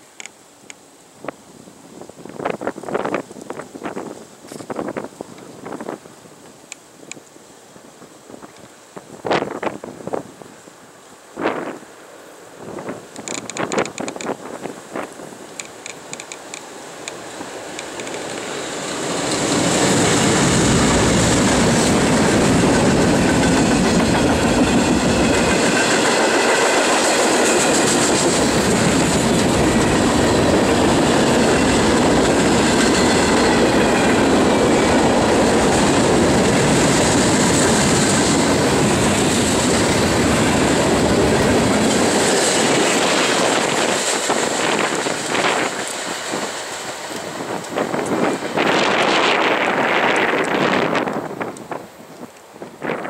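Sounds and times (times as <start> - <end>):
train wheels on rails: 2.2 - 10.2, 11.3 - 53.0
diesel locomotives: 8.4 - 53.0.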